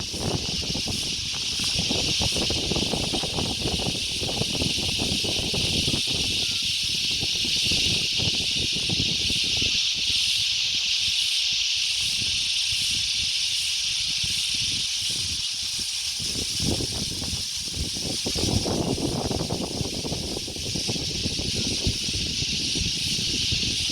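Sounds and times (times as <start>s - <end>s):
insect chorus hissing drone: 0.0s - 23.9s
wind buffeting microphone: 0.0s - 23.9s.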